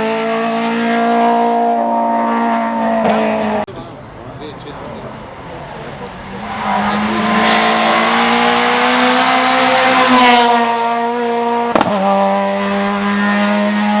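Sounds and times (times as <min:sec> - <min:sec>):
race car engine at high revs: 0:00.0 - 0:03.7, 0:05.0 - 0:14.0.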